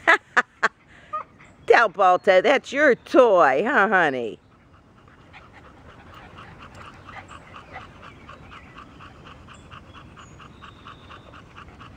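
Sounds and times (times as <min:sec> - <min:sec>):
dog panting: 0:00.6 - 0:11.9.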